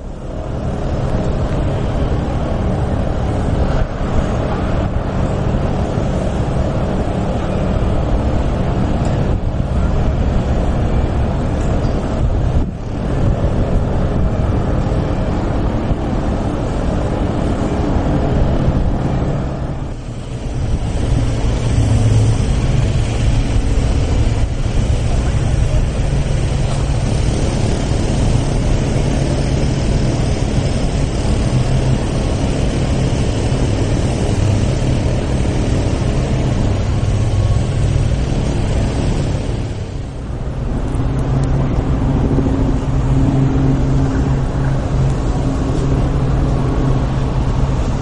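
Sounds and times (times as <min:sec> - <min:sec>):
engine rumbling: 0:00.0 - 0:48.0.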